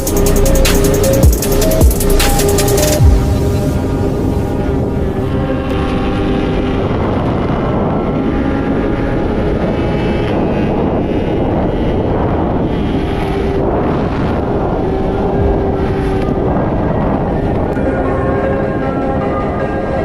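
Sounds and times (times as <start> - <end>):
vehicle engines at high speed: 0.0 - 20.0
wind rush on microphone: 0.0 - 20.0.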